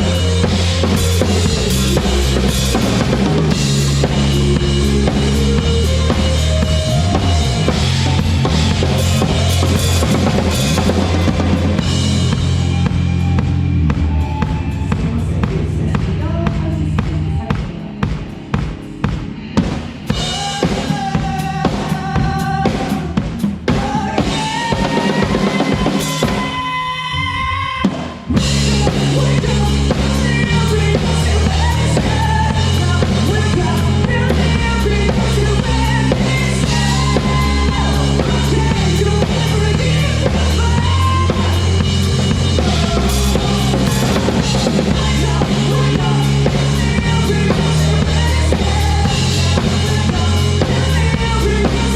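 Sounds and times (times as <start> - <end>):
heavy bass line: 0.0 - 23.2, 28.3 - 51.9
drum kit: 0.0 - 51.9
rock band playing live: 0.0 - 51.9.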